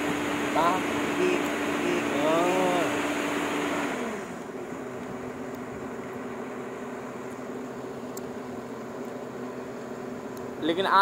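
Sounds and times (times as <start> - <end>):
excavator diesel engine humming: 0.0 - 11.0.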